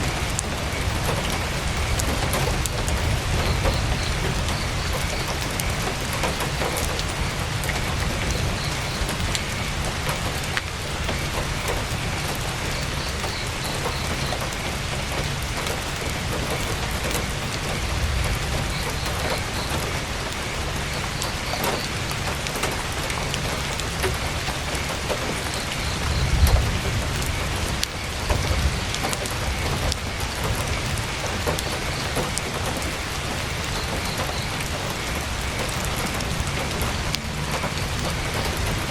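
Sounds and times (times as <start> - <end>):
heavy rain on tent fabric: 0.0 - 38.9.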